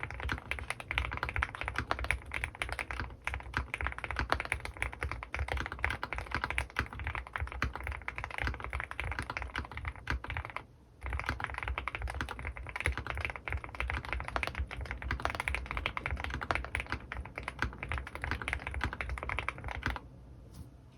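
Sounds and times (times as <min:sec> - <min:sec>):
mechanical keyboard typing: 0:00.0 - 0:20.0.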